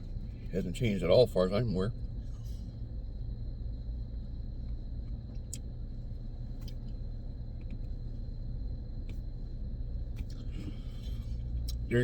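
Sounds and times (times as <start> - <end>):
car engine idling rumble: 0.0 - 12.0.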